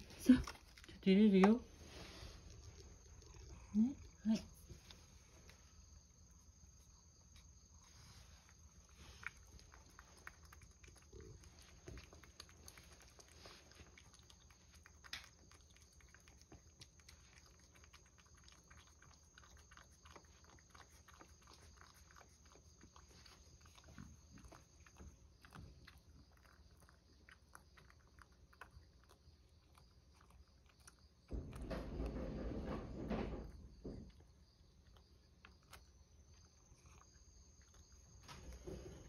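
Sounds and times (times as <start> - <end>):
cat licking and chewing: 0.0 - 39.0.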